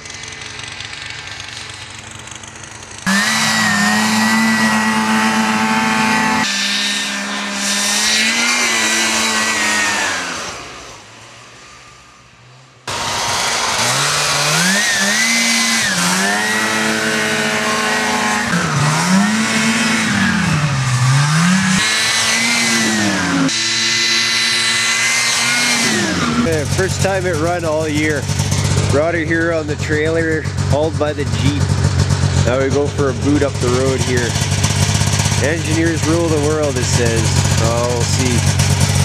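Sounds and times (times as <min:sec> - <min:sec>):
snowmobile engine revving: 0:00.0 - 0:39.0.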